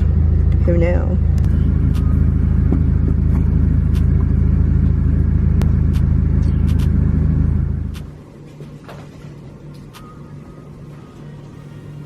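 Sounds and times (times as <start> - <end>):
motor rumbling and droning: 0.0 - 12.0.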